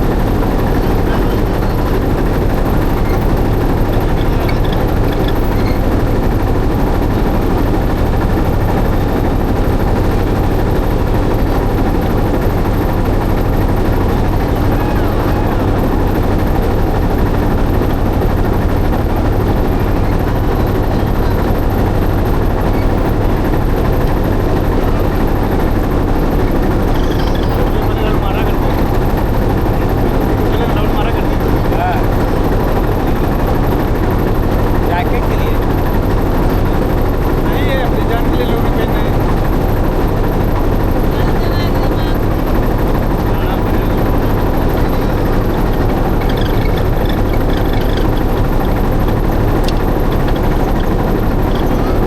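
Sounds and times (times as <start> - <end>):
motorboat engine droning: 0.0 - 52.0.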